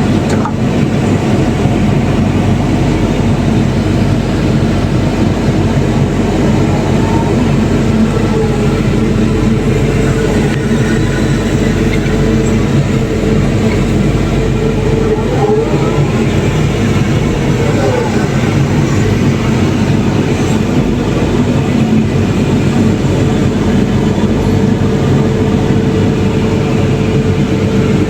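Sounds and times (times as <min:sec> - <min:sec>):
heavy diesel machinery running: 0:00.0 - 0:28.0
faint wavering whine: 0:01.0 - 0:28.0.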